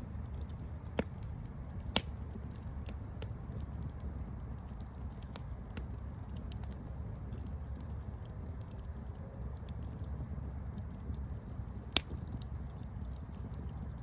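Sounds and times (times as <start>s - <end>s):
campfire crackling: 0.0s - 14.0s
sharp fire pops: 0.2s - 8.6s, 10.6s - 13.9s.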